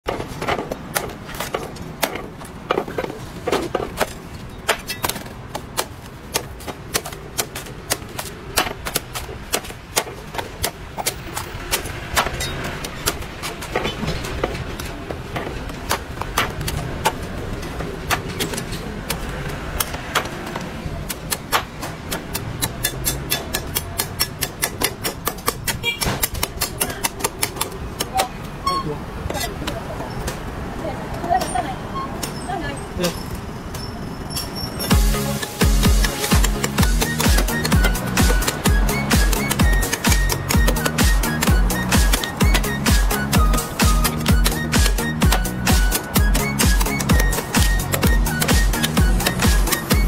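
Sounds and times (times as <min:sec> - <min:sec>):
cleaver chopping coconut husk: 0:00.1 - 0:28.4, 0:34.9 - 0:50.0.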